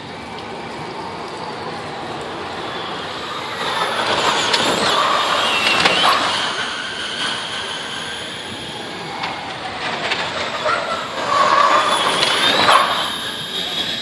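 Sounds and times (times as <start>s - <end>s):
electric race cars whining past: 0.0s - 14.0s.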